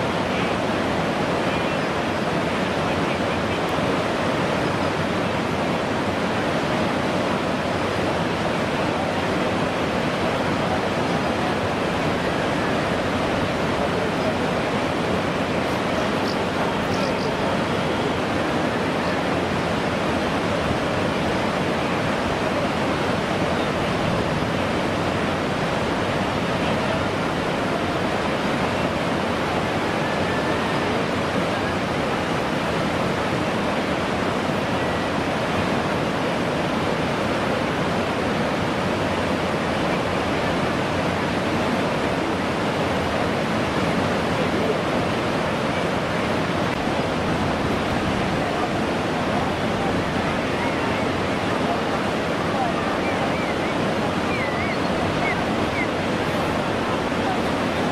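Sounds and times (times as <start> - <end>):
whitewater rapids rushing: 0.0 - 57.9.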